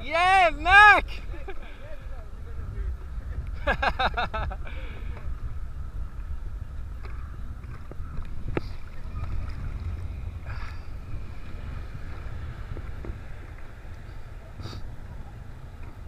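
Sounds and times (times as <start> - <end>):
wind and surf buffeting camera: 0.0 - 16.0.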